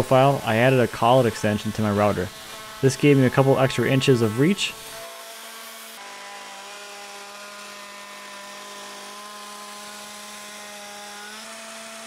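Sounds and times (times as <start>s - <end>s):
router whining: 0.0s - 12.0s.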